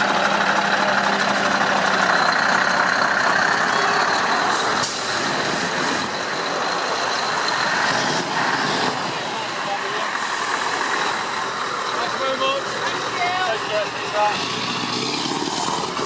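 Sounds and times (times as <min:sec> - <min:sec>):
heavy truck engine: 0:00.0 - 0:16.0
road noise: 0:00.0 - 0:16.0.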